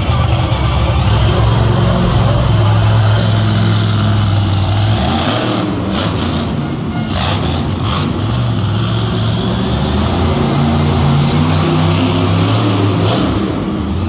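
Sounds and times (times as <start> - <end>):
monster truck engine running: 0.0 - 14.0.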